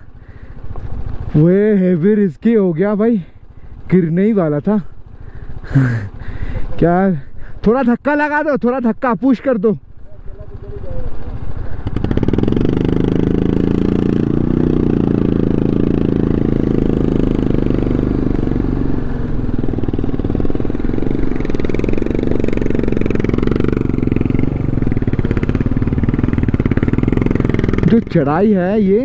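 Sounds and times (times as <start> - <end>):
motorcycle engine under load: 0.0 - 7.7, 8.9 - 29.0.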